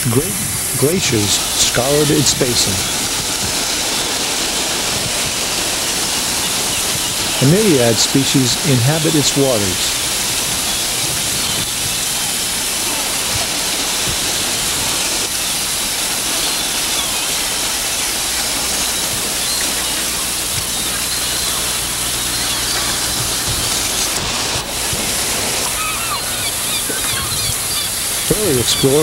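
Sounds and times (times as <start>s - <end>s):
surf on rocky shore: 0.0s - 29.0s.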